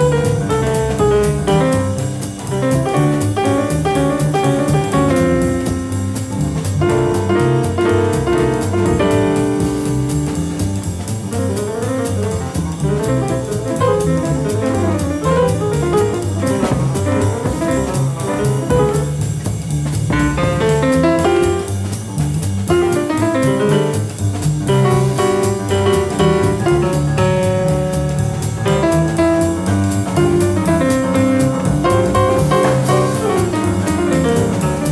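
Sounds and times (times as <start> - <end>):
double bass line: 0.0 - 34.9
piano playing jazz: 0.0 - 34.9.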